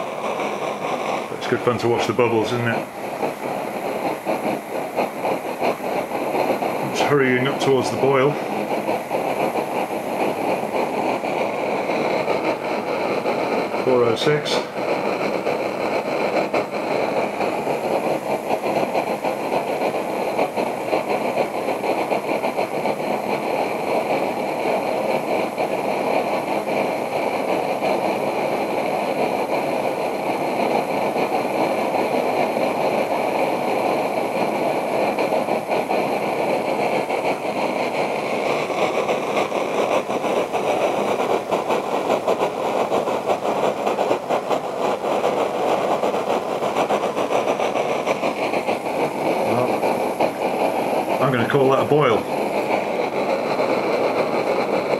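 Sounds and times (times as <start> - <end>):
stove flame rushing: 0.0 - 54.9.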